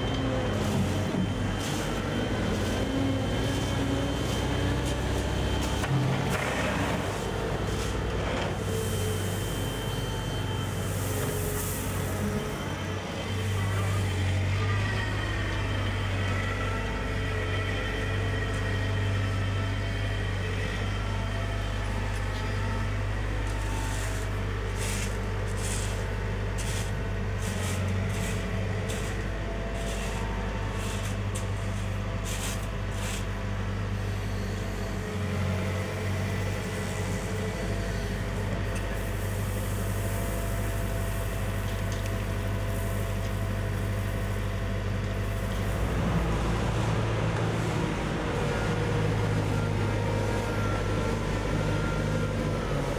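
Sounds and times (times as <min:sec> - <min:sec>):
heavy diesel engines working: 0:00.0 - 0:52.9.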